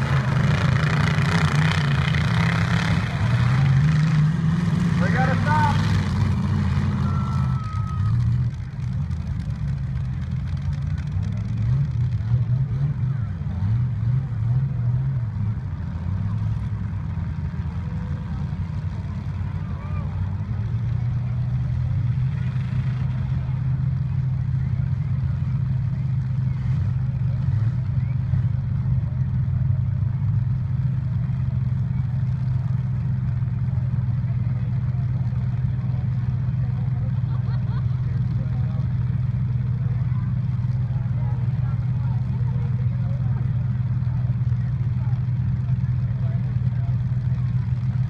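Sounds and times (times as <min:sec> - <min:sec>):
truck engines revving: 0:00.0 - 0:48.0.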